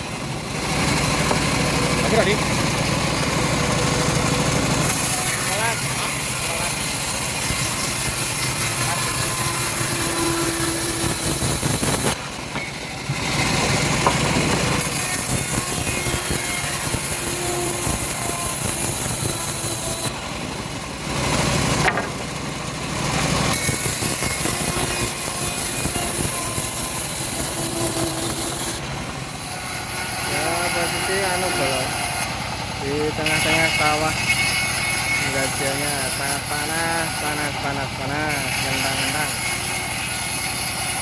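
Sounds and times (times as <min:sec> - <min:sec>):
bandsaw mill sawing a log: 0:00.0 - 0:41.0.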